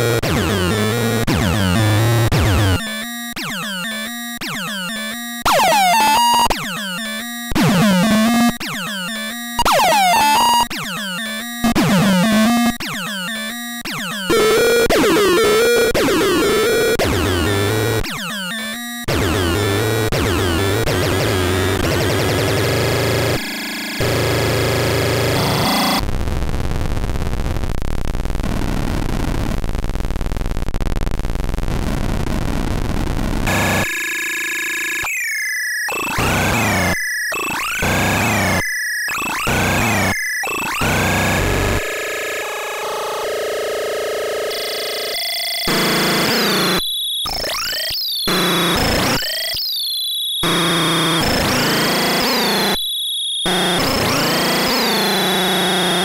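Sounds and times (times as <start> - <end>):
glitchy electronic noise pattern: 0.0 - 26.0, 30.3 - 35.1, 35.9 - 52.8, 53.5 - 56.0.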